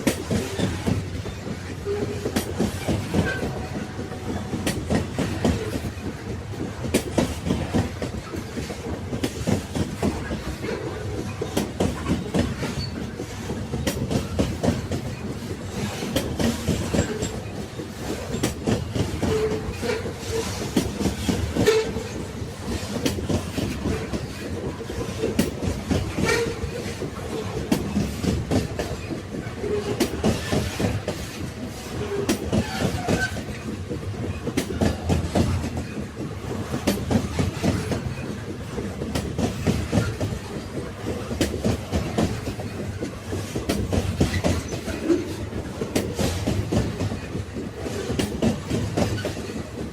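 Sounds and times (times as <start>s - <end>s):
train rumbling on track: 0.0s - 49.9s.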